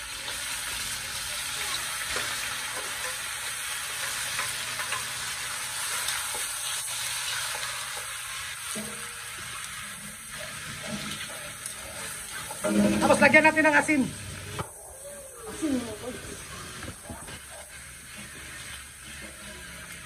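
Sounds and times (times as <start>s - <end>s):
chicken sizzling in a wok: 0.0s - 20.0s.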